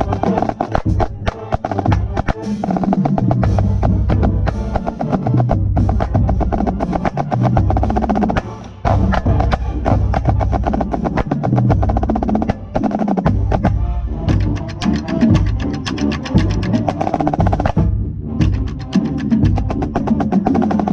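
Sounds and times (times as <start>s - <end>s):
marching band brass and bass drums: 0.0s - 20.9s
marching snare drum: 0.0s - 20.9s.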